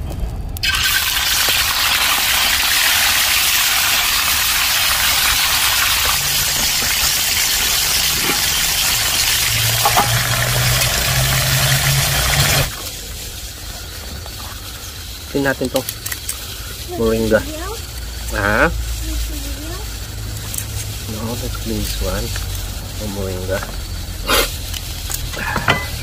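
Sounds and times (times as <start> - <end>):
fish frying in hot oil: 0.6 - 26.0.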